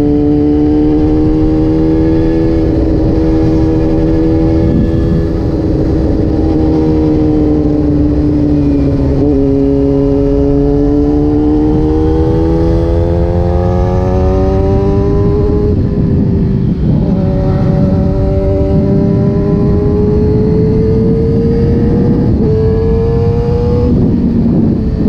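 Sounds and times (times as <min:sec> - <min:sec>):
motorcycle engine running: 0:00.0 - 0:25.0
wind rush: 0:00.0 - 0:25.0.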